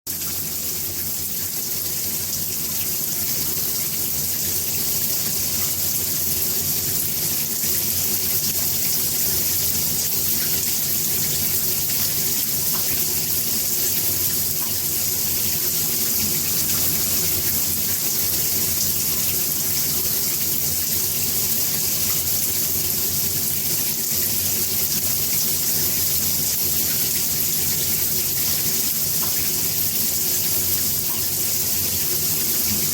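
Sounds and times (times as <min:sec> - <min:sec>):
shower water spraying and splashing: 0:00.1 - 0:32.9.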